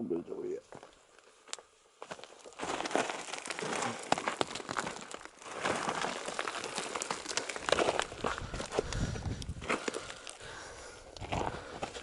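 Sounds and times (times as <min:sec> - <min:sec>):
footsteps crunching on gravel: 0:00.6 - 0:12.0.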